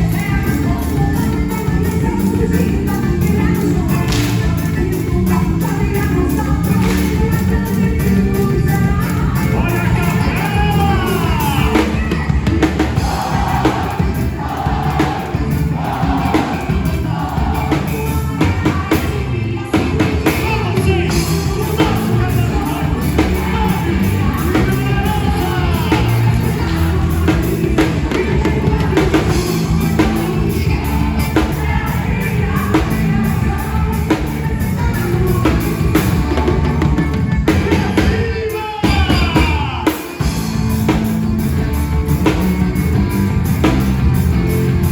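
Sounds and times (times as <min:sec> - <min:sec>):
bass drum: 0:00.0 - 0:38.3, 0:38.9 - 0:44.9
singing: 0:00.0 - 0:41.4
band music: 0:00.0 - 0:44.9.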